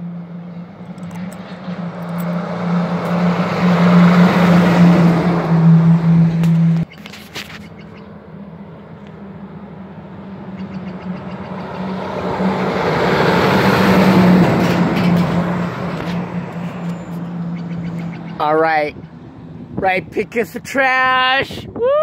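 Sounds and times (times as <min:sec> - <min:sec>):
truck driving past: 0:00.0 - 0:19.8.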